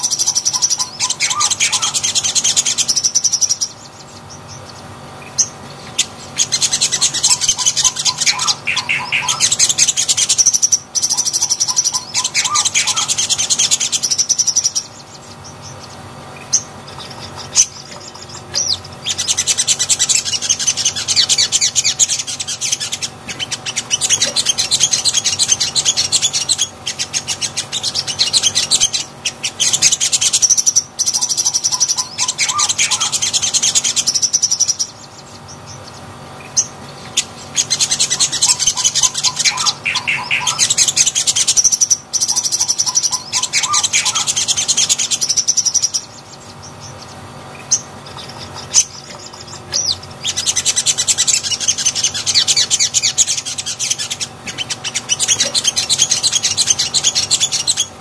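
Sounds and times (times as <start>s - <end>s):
bird piping notes: 0.0s - 58.0s
bird twittering trills: 0.0s - 58.0s.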